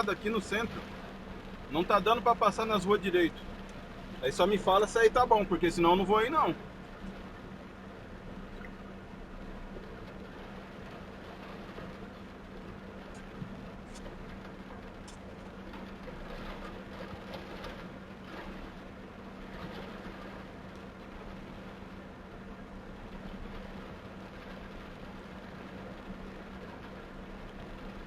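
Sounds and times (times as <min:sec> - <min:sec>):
car engine humming: 0:00.0 - 0:28.0
heavy rain on car: 0:00.0 - 0:28.0.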